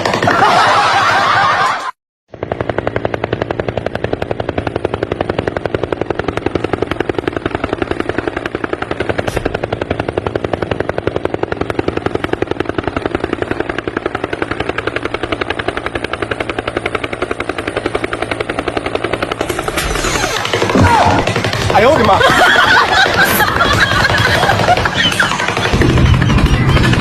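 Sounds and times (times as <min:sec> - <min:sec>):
helicopter rotor blades chopping: 0:00.0 - 0:27.0.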